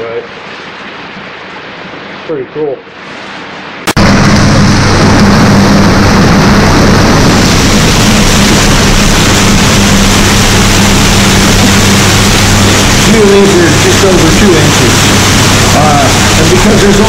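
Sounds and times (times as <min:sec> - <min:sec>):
low electric hum: 0:00.0 - 0:17.0
rushing water and machinery: 0:00.0 - 0:17.0.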